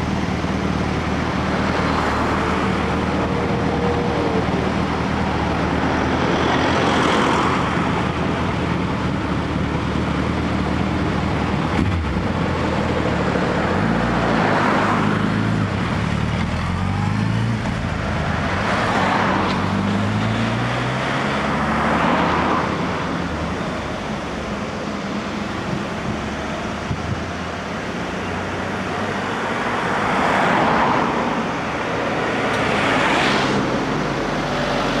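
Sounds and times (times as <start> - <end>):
cars passing by: 0.0 - 35.0.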